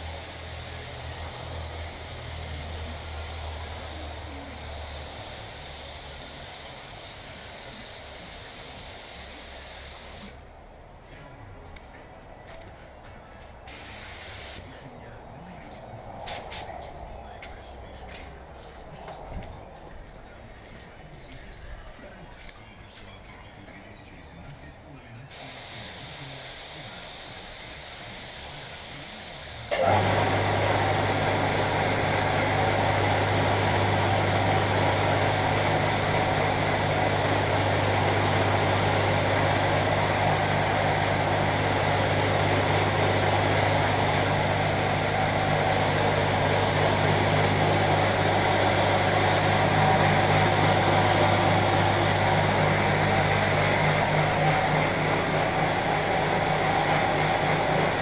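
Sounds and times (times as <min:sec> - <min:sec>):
air compressor running: 0:00.0 - 0:10.5, 0:12.5 - 0:14.8, 0:16.1 - 0:17.4, 0:25.3 - 0:58.0.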